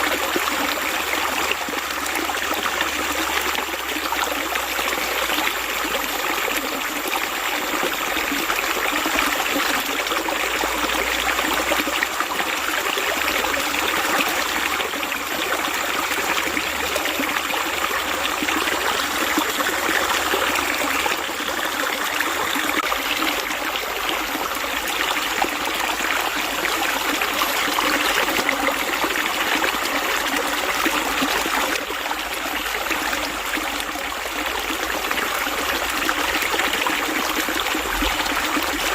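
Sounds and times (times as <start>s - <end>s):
running water babbling: 0.0s - 38.9s.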